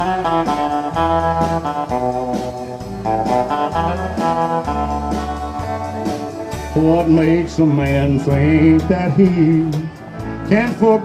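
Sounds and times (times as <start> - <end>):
honky-tonk country music: 0.0 - 11.0.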